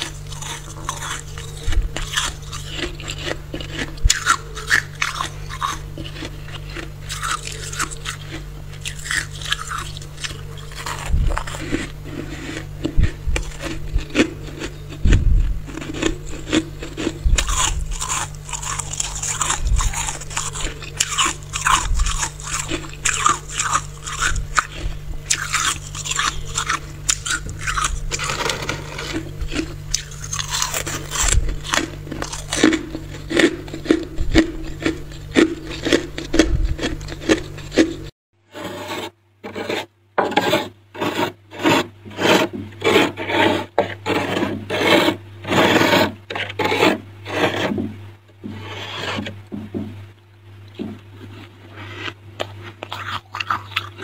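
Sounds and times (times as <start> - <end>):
spoon scraping freezer frost: 0.0 - 49.4, 50.7 - 54.0.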